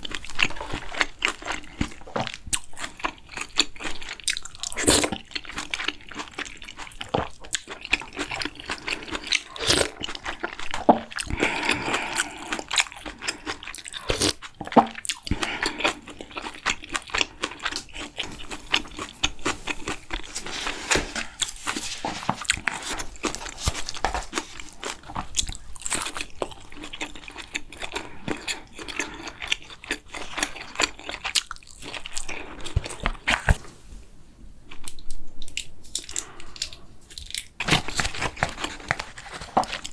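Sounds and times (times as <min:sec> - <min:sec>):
person chewing and crunching food: 0:00.0 - 0:33.8, 0:34.6 - 0:39.9.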